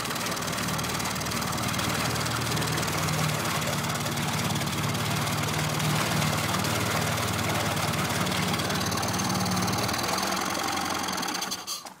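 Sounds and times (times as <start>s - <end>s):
outboard engine running: 0.0s - 11.7s.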